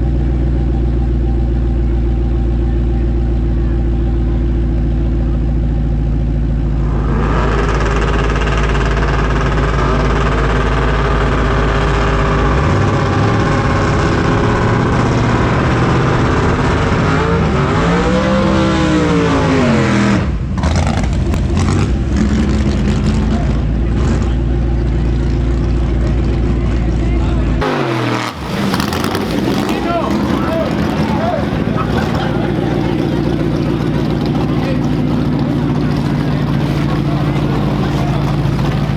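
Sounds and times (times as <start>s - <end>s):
drag racing car engines revving: 0.0s - 38.9s.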